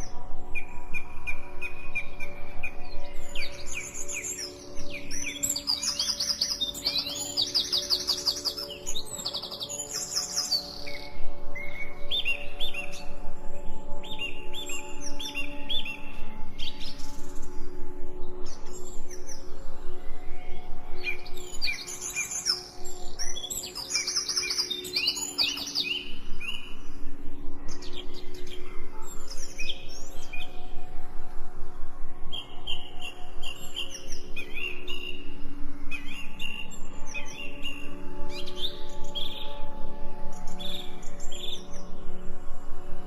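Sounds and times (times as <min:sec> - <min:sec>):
low hum of held tones: 0:00.0 - 0:43.0
songbirds chirping and trilling: 0:00.0 - 0:43.0.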